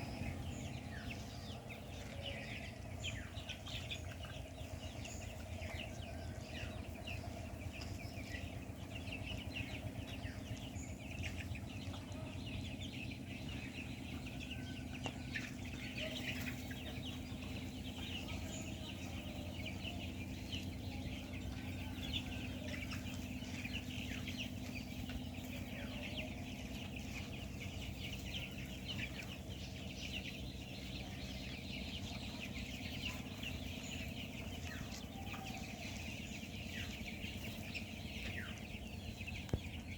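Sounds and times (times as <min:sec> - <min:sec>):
chicks peeping and chirping: 0:00.0 - 0:39.9
steady low hum: 0:00.0 - 0:39.9.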